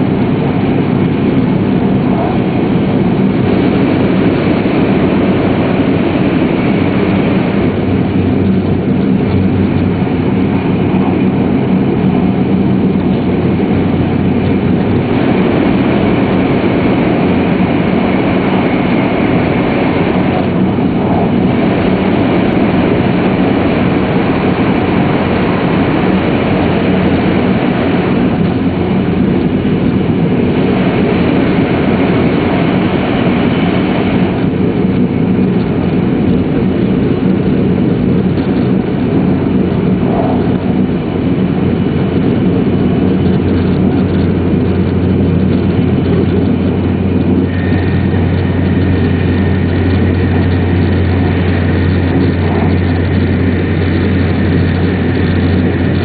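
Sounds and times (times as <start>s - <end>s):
train deep rumble inside cabin: 0.0s - 56.0s.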